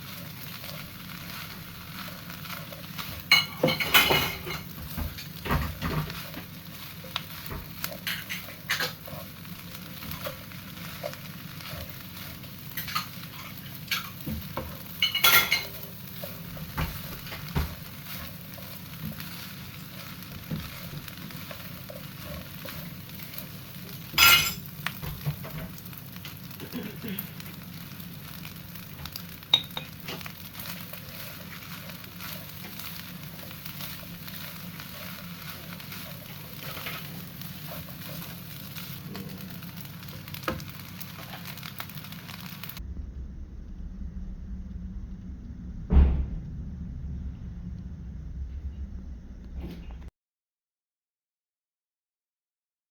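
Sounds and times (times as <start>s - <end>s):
food sizzling in a frying pan: 0.0s - 42.8s.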